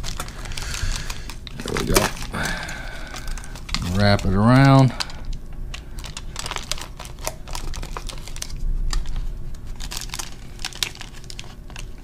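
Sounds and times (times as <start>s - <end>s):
foil tape crinkling: 0.0s - 12.0s.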